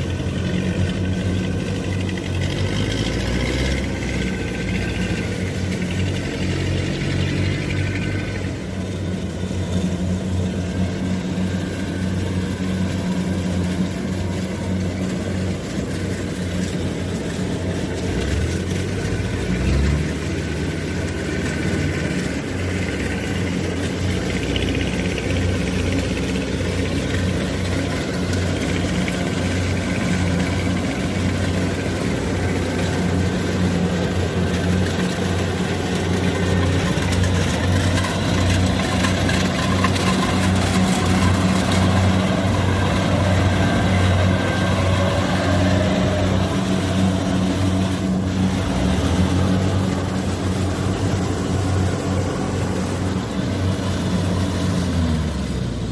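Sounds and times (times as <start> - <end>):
deeper rumble: 0.0 - 55.9
diesel engine running: 0.0 - 55.9.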